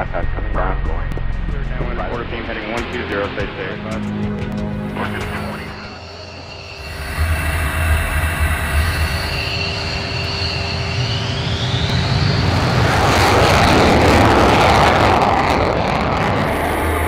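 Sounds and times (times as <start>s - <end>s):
afterburner roar: 0.0s - 17.0s
jet engine rumble and whine: 0.0s - 17.0s.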